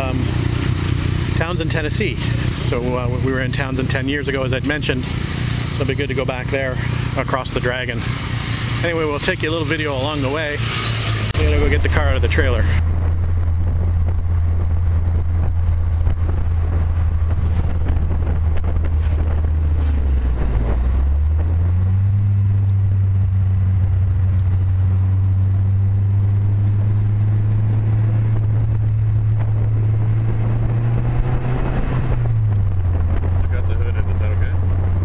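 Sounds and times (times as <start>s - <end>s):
car engine droning: 0.0s - 35.0s.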